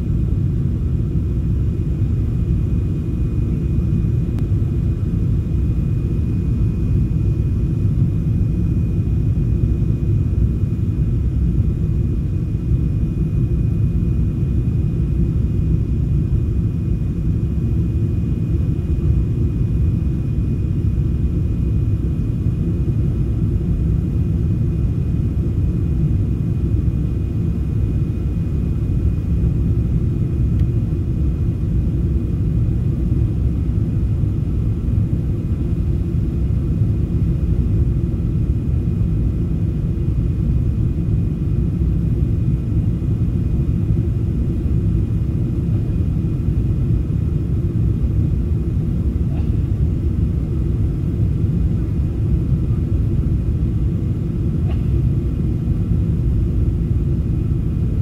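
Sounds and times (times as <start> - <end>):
engine and airflow rumble: 0.0 - 58.0.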